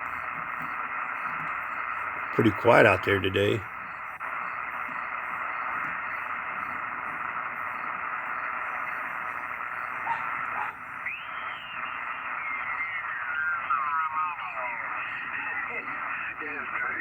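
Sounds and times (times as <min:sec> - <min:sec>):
radio receiver hiss: 0:00.0 - 0:17.0
radio signal sweeping downward: 0:00.0 - 0:17.0.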